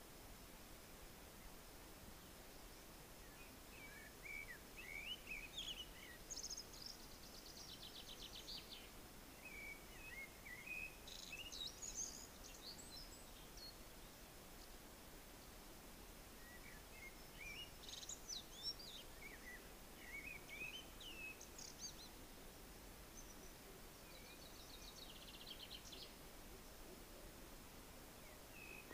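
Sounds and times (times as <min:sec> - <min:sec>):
faint hiss: 0:00.0 - 0:28.9
songbirds singing: 0:00.0 - 0:28.9.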